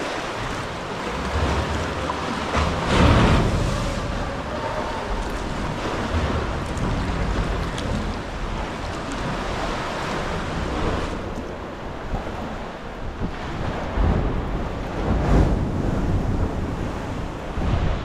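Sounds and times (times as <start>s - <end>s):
sea swell sloshing against rock: 0.0s - 18.0s
wind on microphone: 0.0s - 18.0s.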